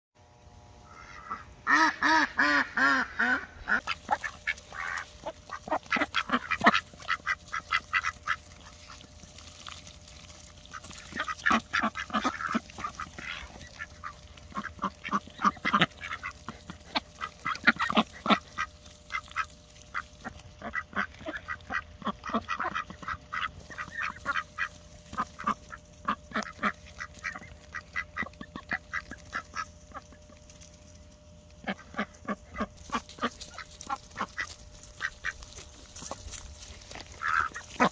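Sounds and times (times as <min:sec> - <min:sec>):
ducks quacking: 0:00.8 - 0:37.9
duck bills clicking and snapping: 0:03.8 - 0:30.9, 0:31.5 - 0:37.9.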